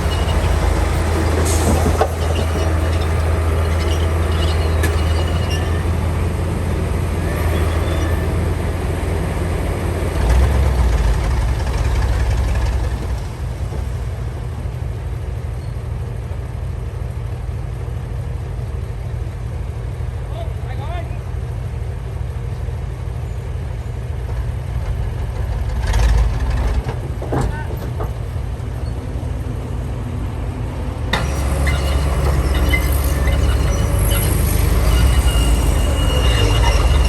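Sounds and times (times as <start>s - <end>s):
heavy diesel machinery rumbling: 0.0s - 37.0s.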